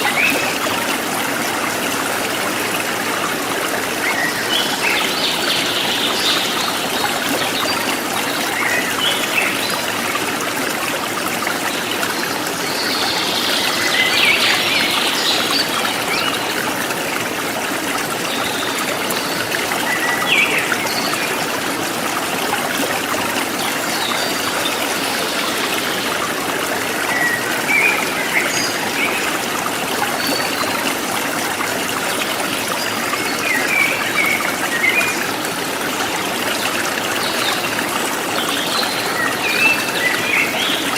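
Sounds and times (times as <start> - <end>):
river water flowing over rocks: 0.0 - 40.9
water gurgles and splashes: 0.0 - 40.9.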